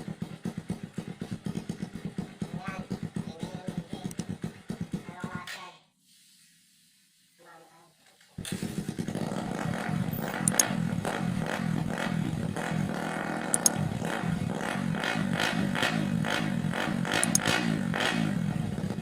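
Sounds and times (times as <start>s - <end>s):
motorcycle engine running: 0.0s - 5.4s, 8.4s - 19.0s.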